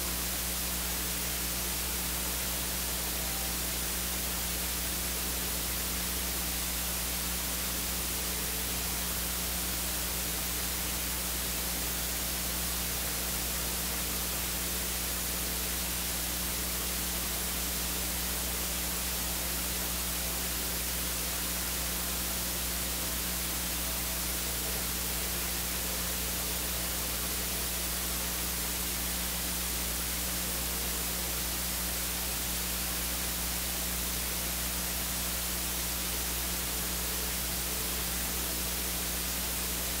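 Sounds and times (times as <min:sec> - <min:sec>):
electrical hiss: 0:00.0 - 0:40.0
low electrical hum: 0:00.0 - 0:40.0.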